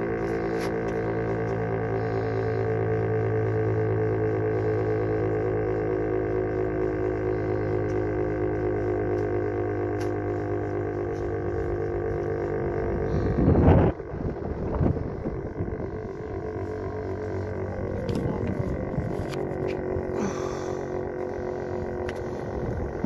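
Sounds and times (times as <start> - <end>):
warning siren with fast flutter: 0.0 - 23.0.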